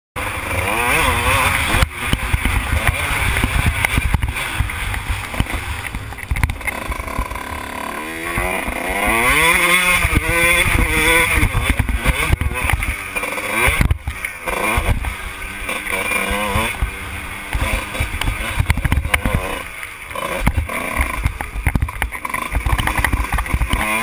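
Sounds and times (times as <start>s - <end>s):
motorcycle engine revving: 0.2s - 24.0s.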